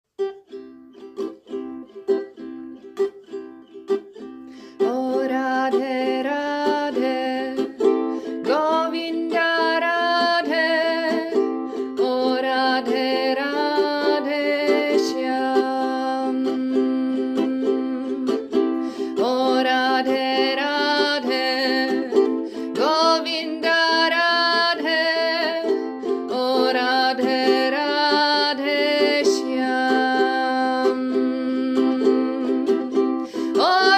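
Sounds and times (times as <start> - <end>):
plucked strings: 0.2 - 33.9.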